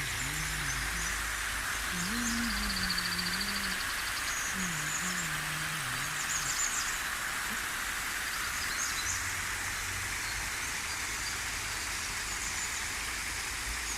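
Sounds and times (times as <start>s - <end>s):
small birds chirping: 0.0s - 7.6s, 8.2s - 13.0s
river water rushing: 0.0s - 12.4s.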